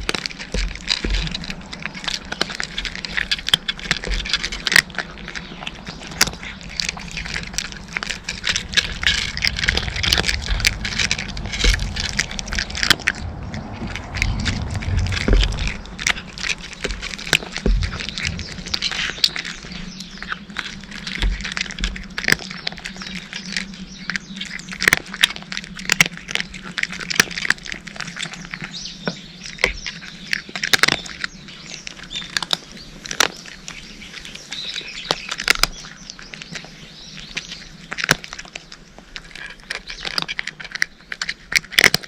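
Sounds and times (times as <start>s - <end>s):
low steady hum: 0.0s - 41.6s
cats crunching dry kibble: 0.0s - 42.0s.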